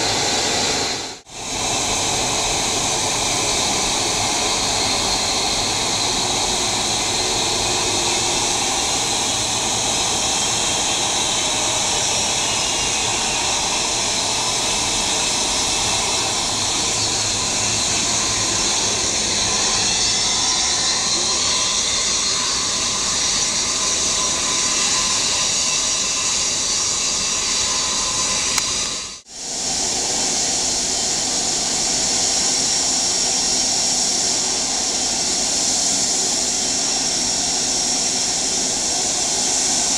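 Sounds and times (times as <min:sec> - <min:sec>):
jet engines roaring on takeoff: 0:00.0 - 0:39.9
jet engines running while taxiing: 0:00.0 - 0:39.9.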